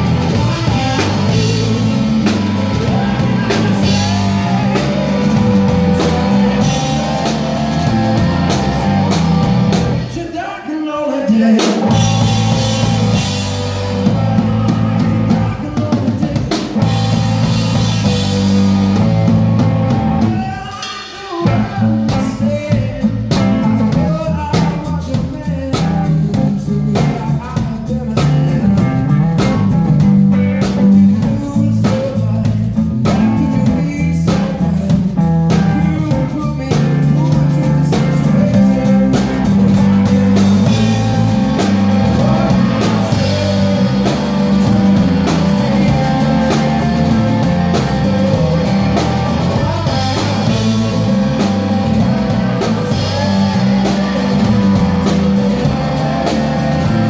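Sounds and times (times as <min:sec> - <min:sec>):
blues rock band playing: 0:00.0 - 0:10.5, 0:11.3 - 0:57.0
man singing: 0:00.0 - 0:19.4, 0:20.0 - 0:57.0.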